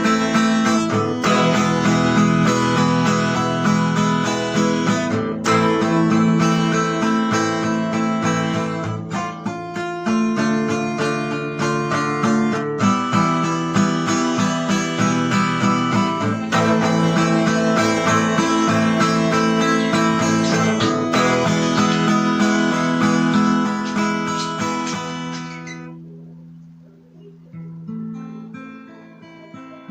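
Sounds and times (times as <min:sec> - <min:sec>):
acoustic guitar strumming chords: 0:00.0 - 0:29.9.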